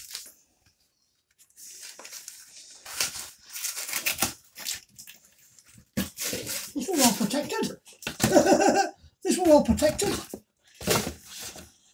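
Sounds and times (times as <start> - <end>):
cardboard packaging rustling: 0.0 - 0.6, 1.3 - 8.6, 9.3 - 11.9.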